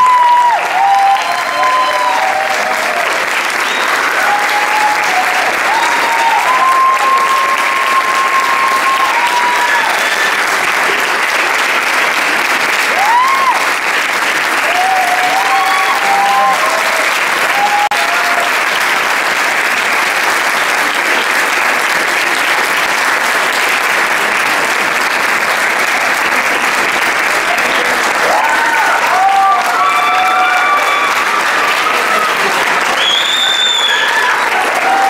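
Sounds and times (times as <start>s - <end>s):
sustained applause: 0.0s - 35.0s.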